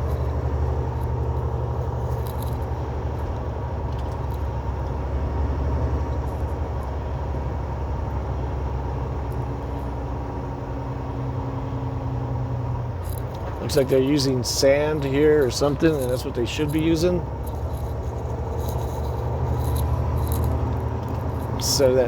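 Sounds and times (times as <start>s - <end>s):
road noise: 0.0s - 22.0s
truck diesel engine drone: 0.0s - 22.0s.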